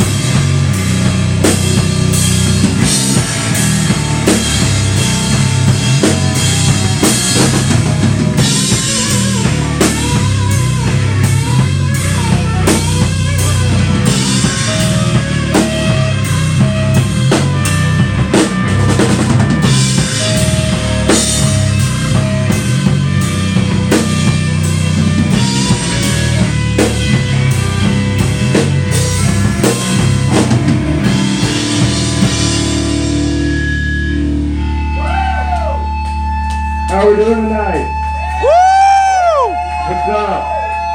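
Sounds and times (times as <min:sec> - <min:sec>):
drum kit beat: 0:00.0 - 0:40.9
electric bass: 0:00.0 - 0:40.9
electric guitar: 0:00.0 - 0:40.9.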